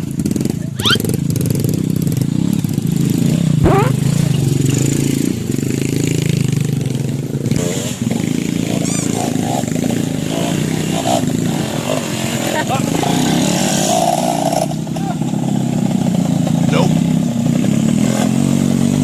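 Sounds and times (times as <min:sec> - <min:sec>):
dirt bike engine revving: 0:00.1 - 0:19.0.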